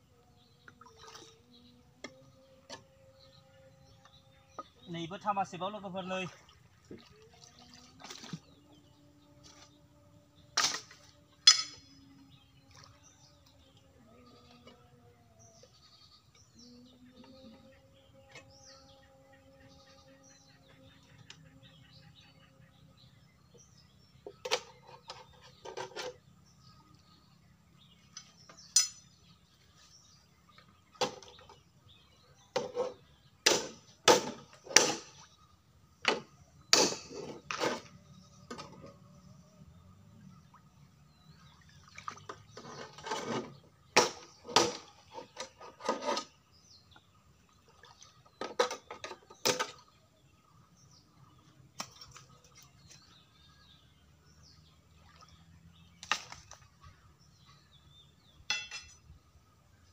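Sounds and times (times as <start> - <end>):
water splashing and sloshing: 0.4 - 17.6, 22.7 - 59.9.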